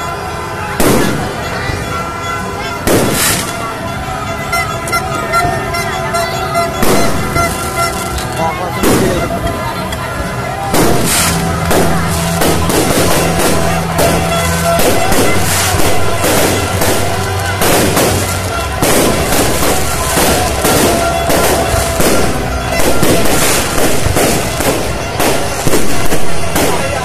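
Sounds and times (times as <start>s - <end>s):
fireworks bursting and crackling: 0.0s - 5.9s, 6.5s - 27.0s.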